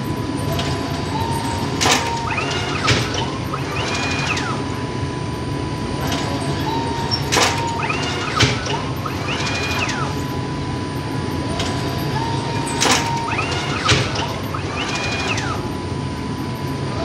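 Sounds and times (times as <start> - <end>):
dough sheeting machine drone: 0.0 - 17.0
squeaky roller whines: 0.0 - 17.0.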